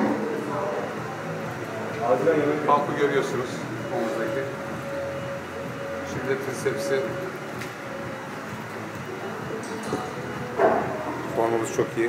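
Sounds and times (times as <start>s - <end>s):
room hum with held tone: 0.0s - 12.0s.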